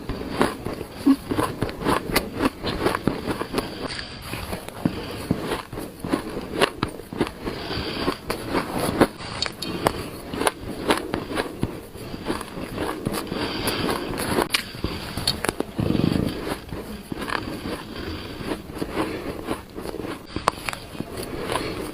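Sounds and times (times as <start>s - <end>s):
shaved ice crunching while chewed: 0.0s - 21.9s.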